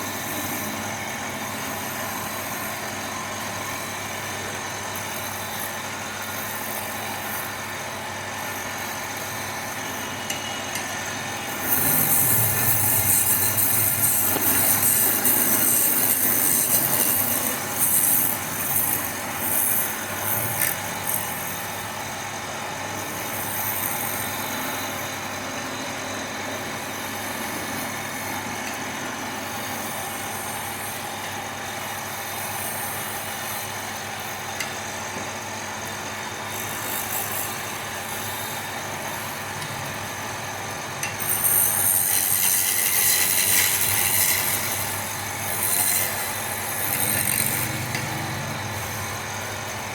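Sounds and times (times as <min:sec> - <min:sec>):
wood lathe motor humming: 0:00.0 - 0:49.9
turning tool cutting wood: 0:04.5 - 0:49.9.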